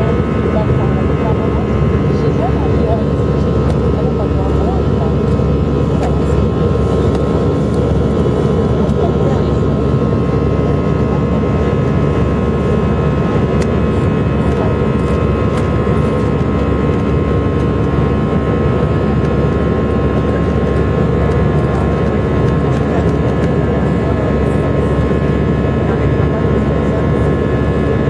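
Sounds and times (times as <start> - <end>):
airplane cabin jet engine noise: 0.0 - 28.0.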